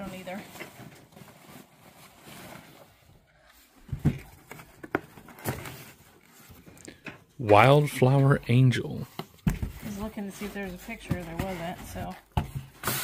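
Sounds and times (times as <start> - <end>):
cardboard box set on table: 0.0 - 13.0.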